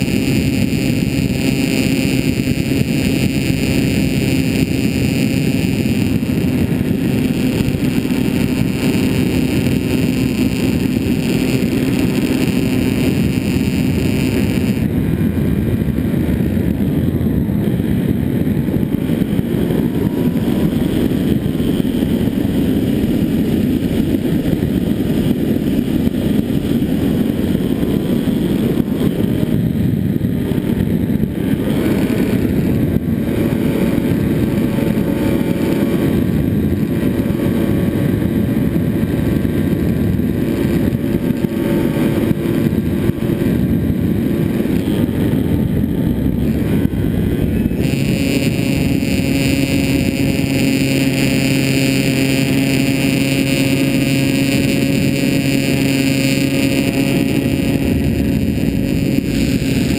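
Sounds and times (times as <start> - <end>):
model plane motor and propeller: 0.0 - 59.9
wind rush on microphone: 0.0 - 59.9.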